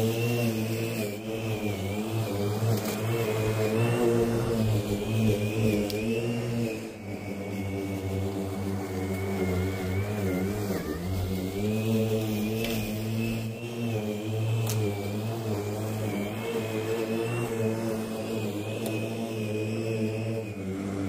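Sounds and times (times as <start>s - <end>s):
electric lawn mower humming: 0.0s - 21.0s.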